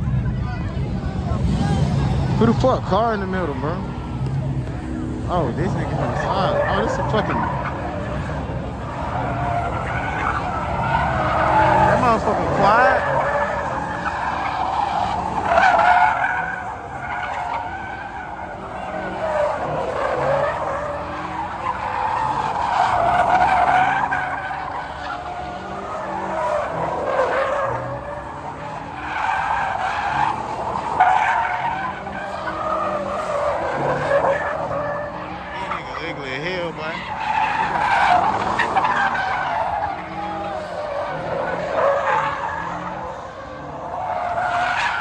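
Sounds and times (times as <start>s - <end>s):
car engine revving: 0.0s - 45.0s
tires squealing: 0.0s - 45.0s.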